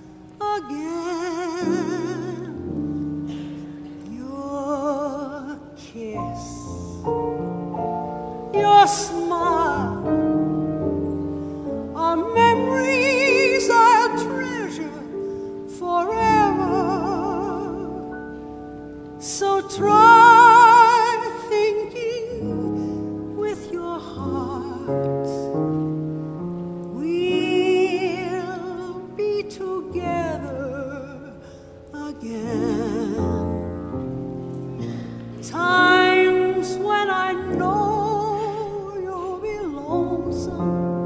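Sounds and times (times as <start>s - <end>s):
piano chords: 0.0s - 41.0s
woman singing a slow ballad: 0.0s - 41.0s.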